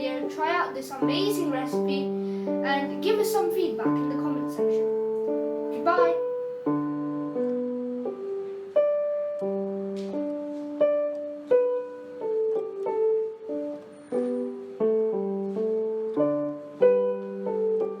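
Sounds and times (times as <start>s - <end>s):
piano playing gentle melody: 0.0s - 18.0s.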